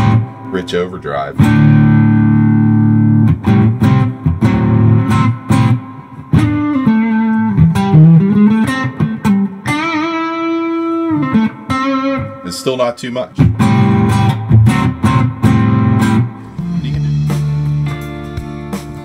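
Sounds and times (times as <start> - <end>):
overdriven electric guitar: 0.0 - 19.0.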